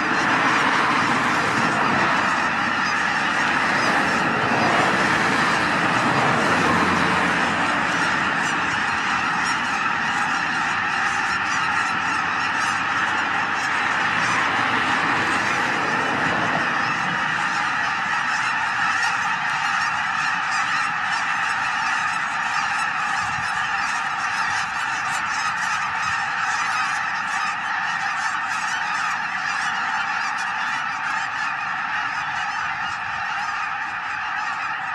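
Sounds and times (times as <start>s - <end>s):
geese honking: 0.0s - 34.9s.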